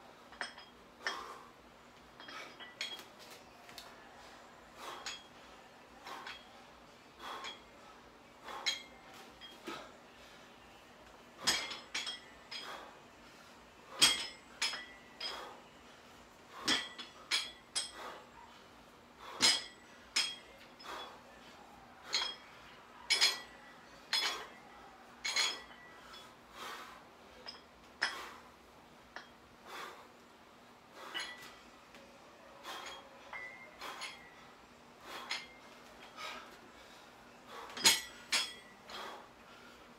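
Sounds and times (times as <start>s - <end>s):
dumbbell plates clinking: 0.1s - 10.4s, 11.0s - 18.6s, 19.2s - 30.0s, 30.9s - 32.0s, 32.6s - 39.3s.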